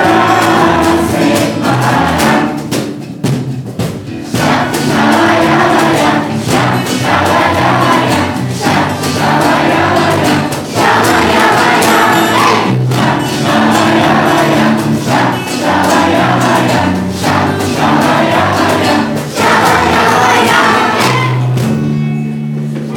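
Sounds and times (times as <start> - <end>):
children and adults singing: 0.0 - 3.0, 4.2 - 21.7
acoustic guitar: 0.0 - 22.9.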